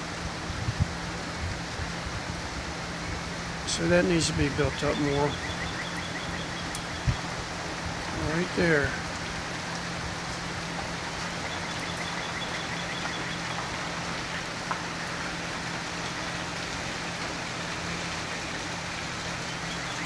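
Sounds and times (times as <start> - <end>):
rain on gravel: 0.0 - 20.0
running water: 0.0 - 20.0.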